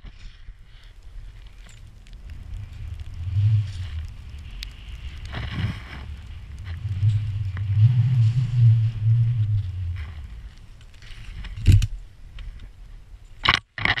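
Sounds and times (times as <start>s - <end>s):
wind buffeting microphone: 0.0s - 13.2s
skis running through powder snow: 0.1s - 11.6s.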